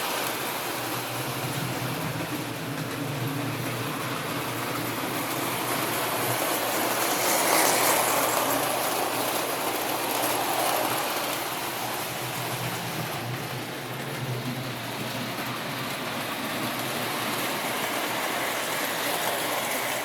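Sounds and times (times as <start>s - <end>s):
toy train motor hum: 0.0s - 20.0s
wheel and rail rumble: 0.0s - 20.0s.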